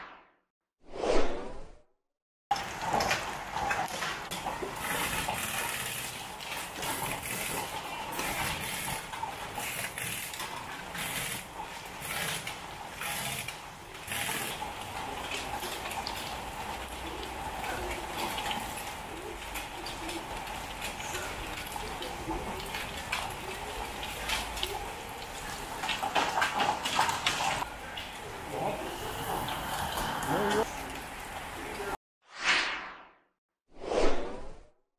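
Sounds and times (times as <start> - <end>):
heavy rain downpour: 2.5 - 32.0.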